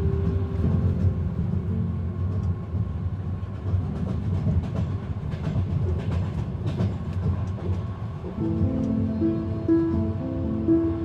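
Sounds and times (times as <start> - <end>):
wheels clicking over track: 0.0 - 10.2
low rumble of moving train: 0.0 - 11.0.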